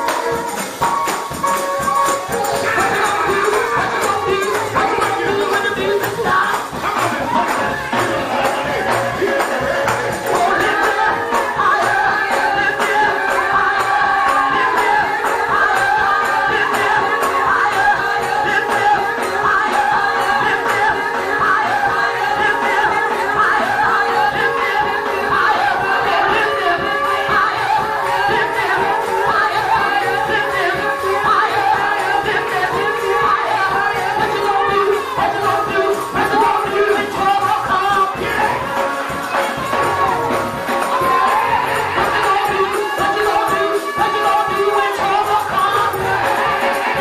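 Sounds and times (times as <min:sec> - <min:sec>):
gospel singing with instruments: 0:00.0 - 0:47.0.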